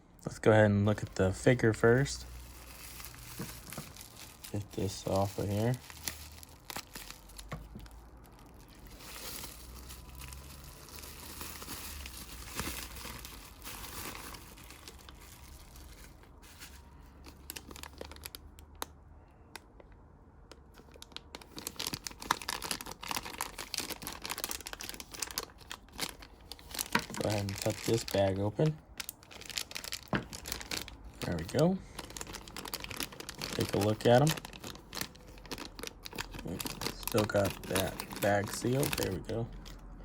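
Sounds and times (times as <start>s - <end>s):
plastic wrapping crinkling and tearing: 0.9s - 18.9s, 20.5s - 39.9s.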